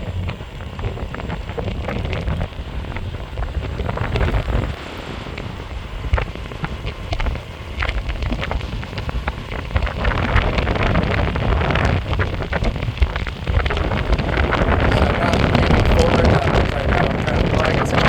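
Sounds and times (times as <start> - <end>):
skateboard wheels rumbling on pavement: 0.0 - 18.0
wind buffeting microphone: 0.0 - 18.0.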